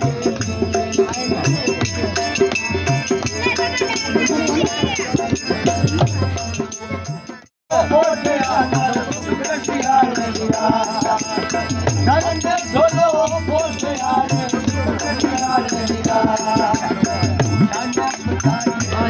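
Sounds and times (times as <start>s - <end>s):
harmonium: 0.0s - 19.0s.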